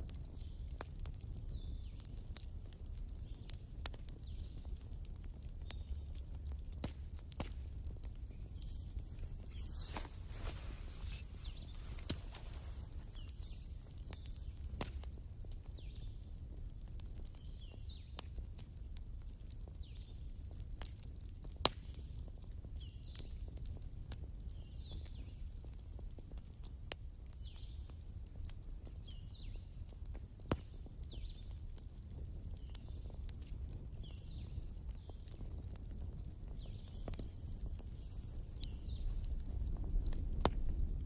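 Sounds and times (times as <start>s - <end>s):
fire low rumble: 0.0s - 41.0s
wood fire crackling: 0.0s - 41.0s.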